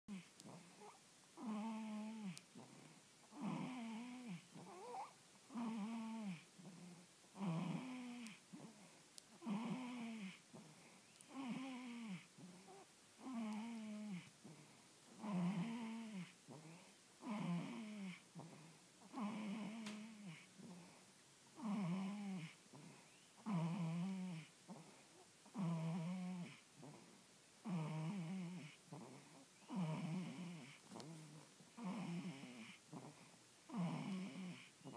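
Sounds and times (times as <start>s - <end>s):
baby snoring: 0.1s - 21.0s, 21.6s - 34.9s.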